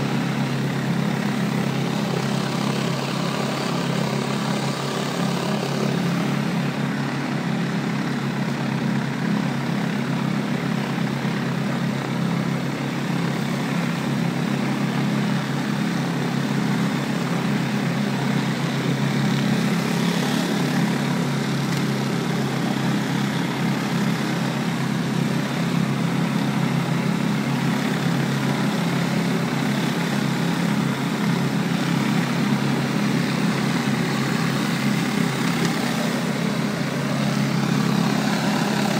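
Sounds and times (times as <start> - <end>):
high-pressure water spraying pavers: 0.0 - 38.9
pressure washer engine running: 0.0 - 38.9.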